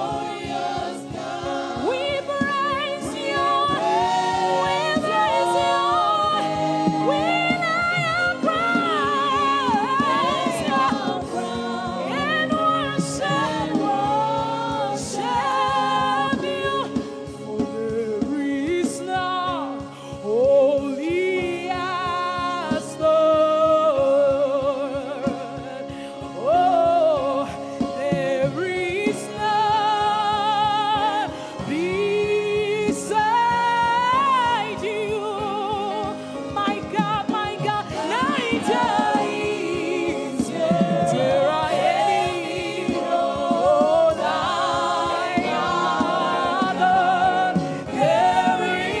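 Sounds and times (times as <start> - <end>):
choir singing: 0.0 - 19.6, 28.0 - 49.0.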